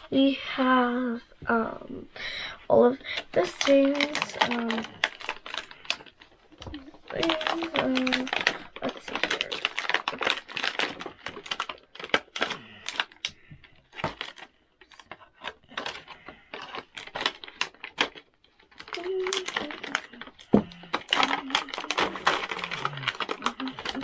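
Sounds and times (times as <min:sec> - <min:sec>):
plastic bags crinkling: 0:02.9 - 0:24.0.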